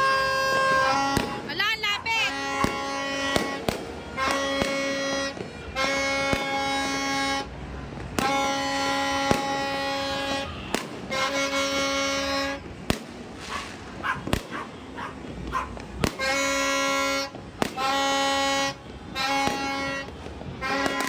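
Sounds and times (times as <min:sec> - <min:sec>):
long horn blasts: 0:00.0 - 0:01.5, 0:02.2 - 0:12.8, 0:16.0 - 0:21.0
fireworks bangs and crackles: 0:00.0 - 0:21.0.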